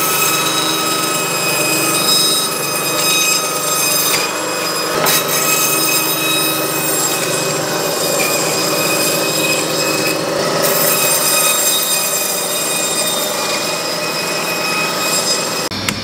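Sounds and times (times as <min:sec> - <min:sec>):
band saw cutting bone: 0:00.0 - 0:16.0.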